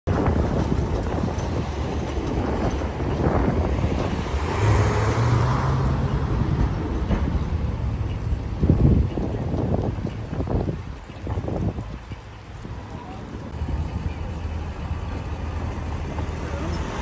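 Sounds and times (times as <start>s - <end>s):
street traffic rumble: 0.1s - 17.0s
tram passing: 0.1s - 17.0s.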